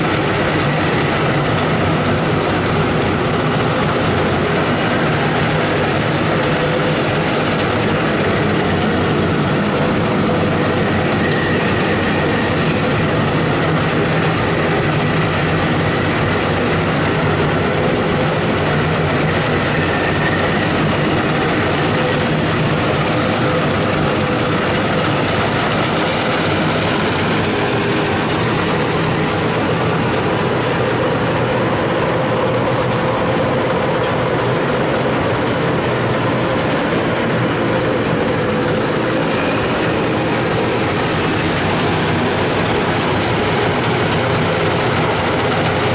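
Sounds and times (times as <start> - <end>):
combine harvester engine drone: 0.0 - 45.9
steady machine tones: 0.0 - 45.9.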